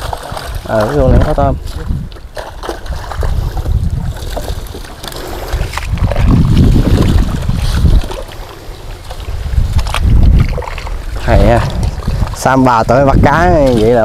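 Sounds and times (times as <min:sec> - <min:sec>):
pond water sloshing and splashing: 0:00.0 - 0:14.0
wind buffeting microphone: 0:00.0 - 0:14.0.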